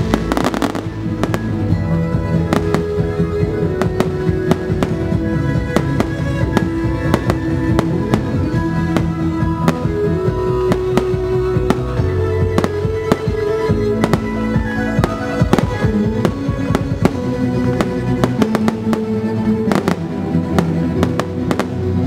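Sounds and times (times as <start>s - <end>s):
fireworks bangs and cracks: 0.0s - 1.7s, 2.4s - 3.2s, 3.8s - 14.3s, 15.0s - 22.0s
music with long held notes: 0.0s - 22.0s.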